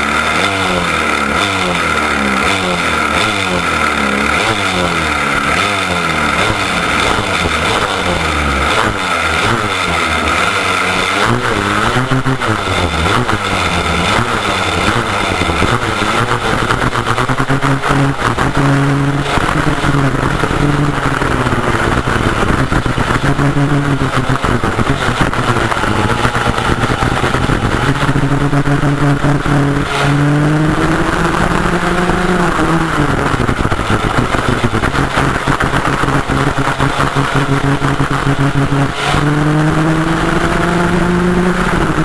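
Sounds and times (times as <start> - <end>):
kart two-stroke engine: 0.0 - 42.0
wind and tyre noise: 0.0 - 42.0.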